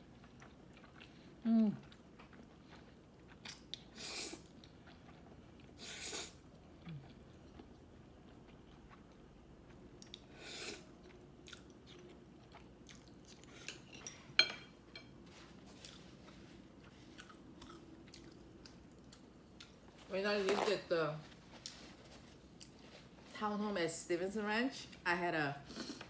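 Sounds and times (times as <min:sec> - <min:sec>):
person chewing food: 0:00.0 - 0:14.2, 0:15.1 - 0:20.1, 0:21.4 - 0:23.2.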